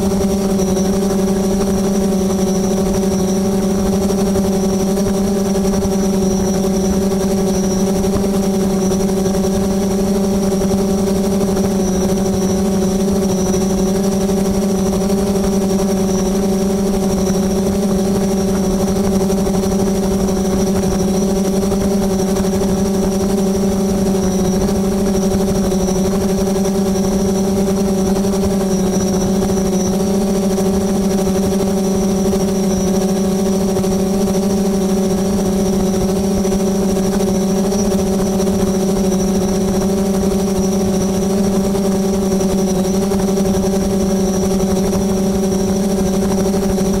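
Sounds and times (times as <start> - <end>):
drone propellers humming: 0.0 - 47.0.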